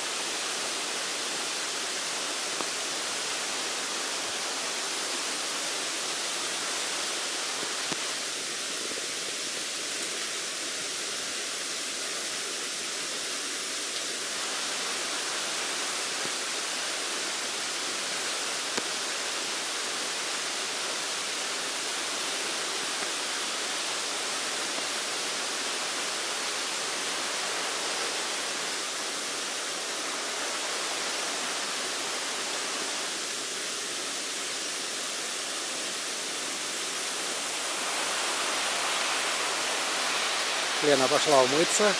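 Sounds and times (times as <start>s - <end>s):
waterfall rushing onto rocks: 0.0s - 41.9s.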